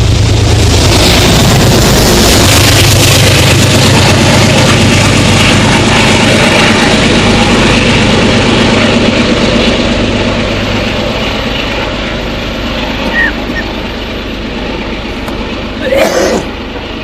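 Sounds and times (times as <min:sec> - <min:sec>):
diesel train engine hum: 0:00.0 - 0:17.0.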